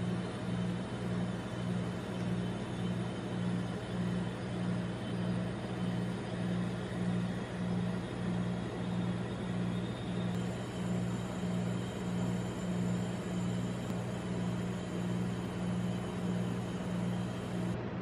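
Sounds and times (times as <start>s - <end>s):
refrigeration compressor humming: 0.0s - 18.0s.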